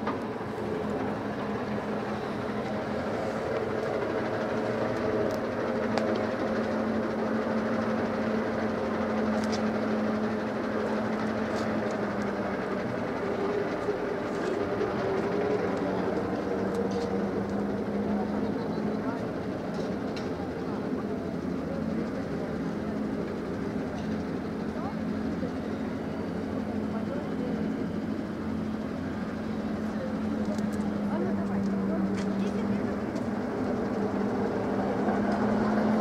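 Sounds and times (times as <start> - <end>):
street noise: 0.0 - 36.0
vehicle engine idling: 0.0 - 36.0.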